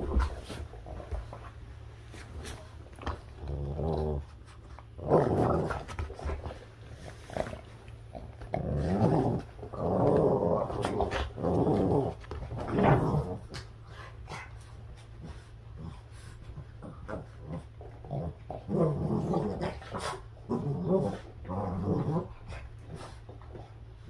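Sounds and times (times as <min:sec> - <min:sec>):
dogs play-growling: 0:00.0 - 0:24.0.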